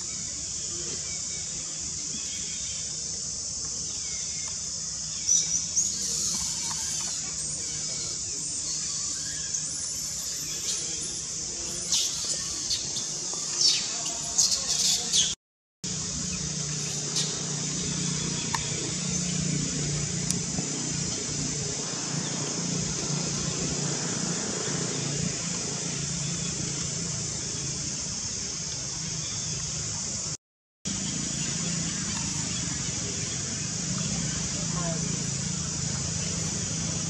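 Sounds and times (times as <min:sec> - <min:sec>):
high hiss: 0:00.0 - 0:37.0.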